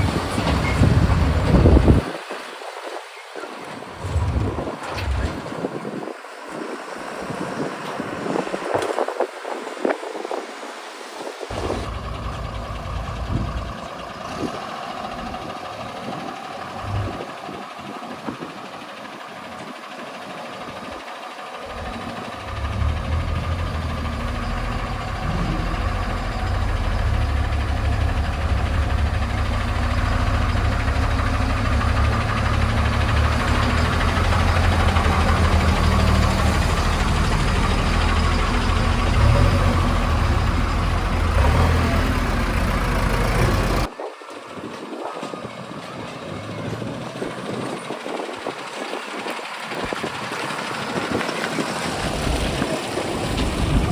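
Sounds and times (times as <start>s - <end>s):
diesel engine running: 0.0s - 10.4s, 11.2s - 53.9s.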